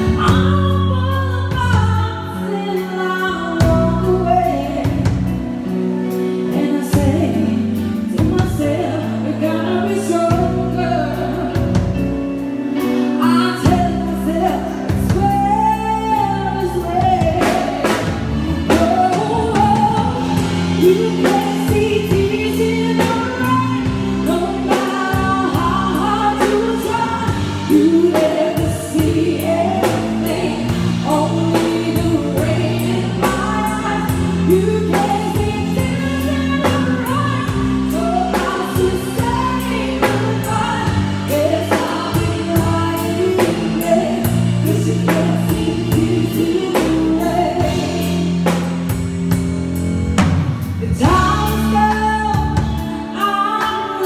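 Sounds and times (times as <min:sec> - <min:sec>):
woman singing into microphone: 0:00.0 - 0:49.0, 0:50.7 - 0:54.0
band with guitar and drums: 0:00.0 - 0:54.0.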